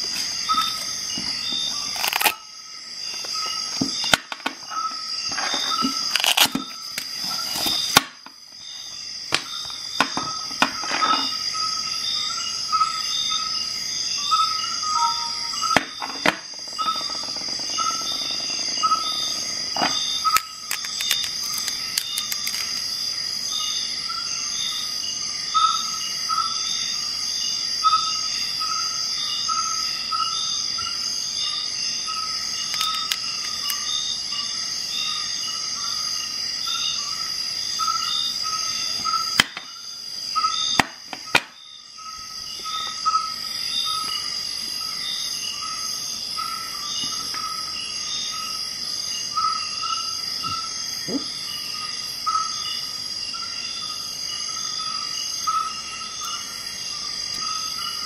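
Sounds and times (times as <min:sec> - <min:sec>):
insects trilling and chirping: 0:00.0 - 0:58.0.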